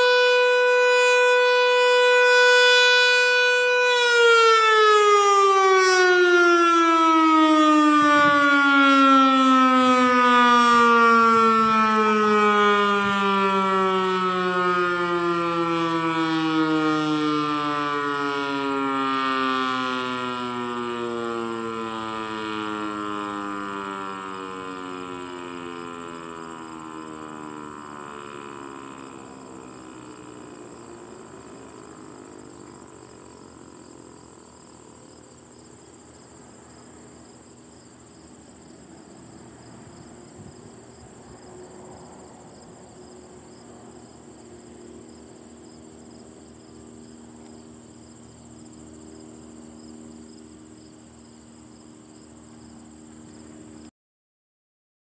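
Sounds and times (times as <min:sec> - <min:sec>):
warning siren gliding down: 0:00.0 - 0:53.9.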